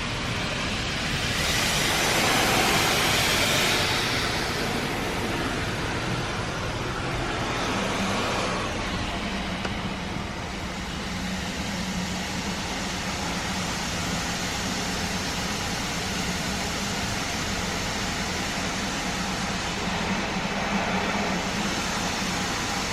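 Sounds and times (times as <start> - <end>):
car wash water spray: 0.0 - 22.9.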